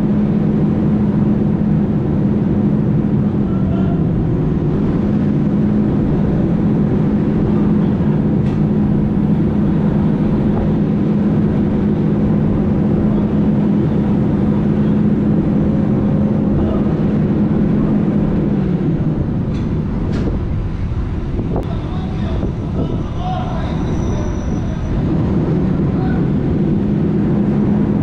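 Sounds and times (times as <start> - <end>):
diesel engine of construction machine: 0.0 - 28.0.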